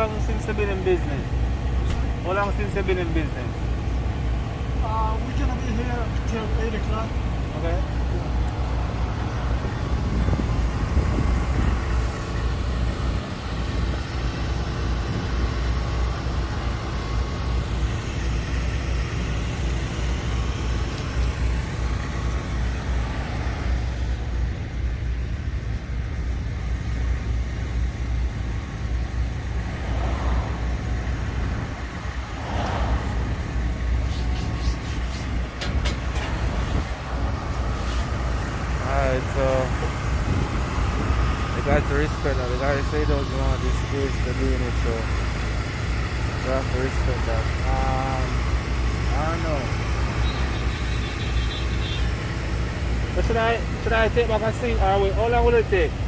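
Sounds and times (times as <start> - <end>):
low engine drone: 0.0 - 56.0
street noise: 0.0 - 56.0.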